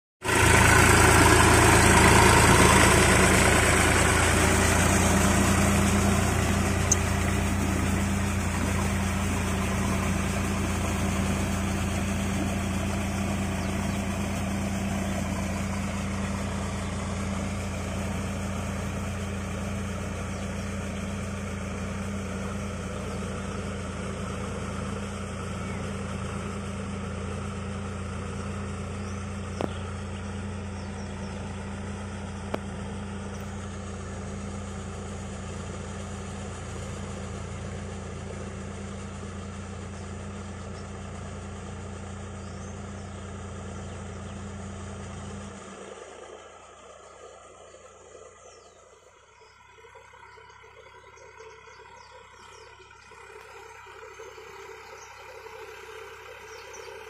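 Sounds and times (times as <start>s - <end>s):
tractor diesel engine running: 0.2s - 57.0s.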